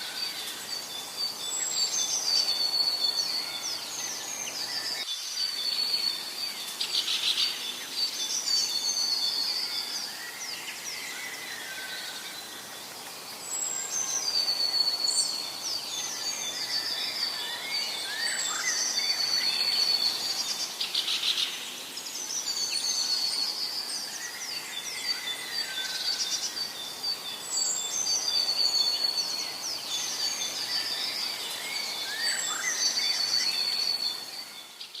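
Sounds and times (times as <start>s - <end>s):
birds chirping: 0.0s - 35.0s
steady background hiss: 0.0s - 35.0s.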